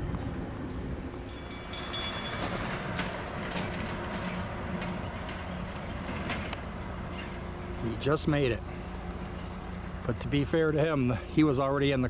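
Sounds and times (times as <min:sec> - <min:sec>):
truck rumbling over railroad crossing: 0:00.0 - 0:12.0.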